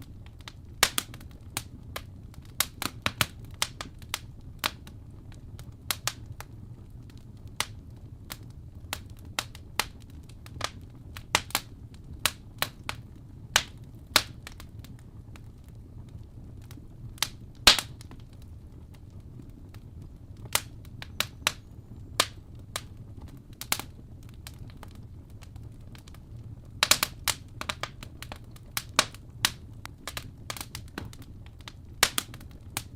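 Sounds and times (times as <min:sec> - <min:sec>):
fire crackling: 0:00.0 - 0:32.9
low steady rumble: 0:00.0 - 0:32.9.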